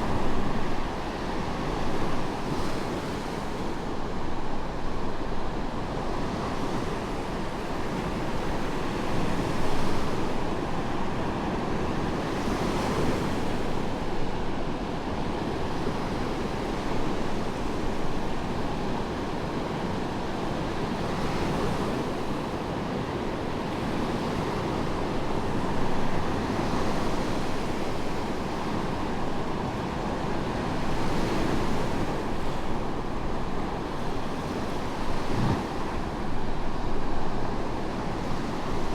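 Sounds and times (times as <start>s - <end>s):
waves washing up a sandy beach: 0.0s - 38.9s.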